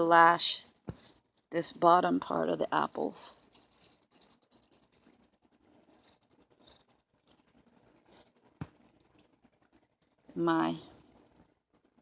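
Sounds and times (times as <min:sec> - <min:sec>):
grass stems rustling and ticking: 0:00.0 - 0:02.4, 0:03.0 - 0:12.0.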